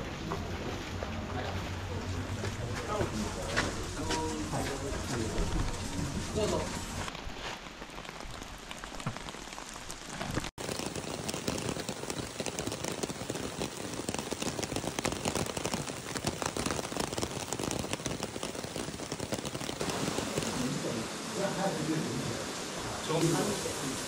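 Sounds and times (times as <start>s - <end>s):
steady rain falling: 0.0s - 24.0s
raindrops spattering near microphone: 2.8s - 24.0s.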